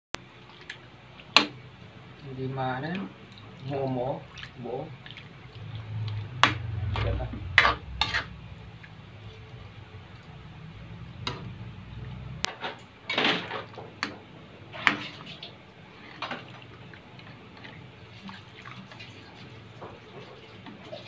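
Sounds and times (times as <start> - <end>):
liquid sloshing: 0.2 - 21.0.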